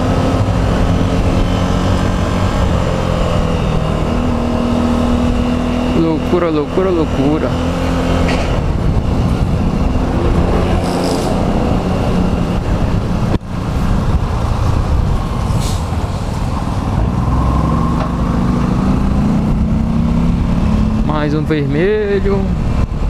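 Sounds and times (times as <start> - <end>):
steady road noise: 0.0 - 23.0.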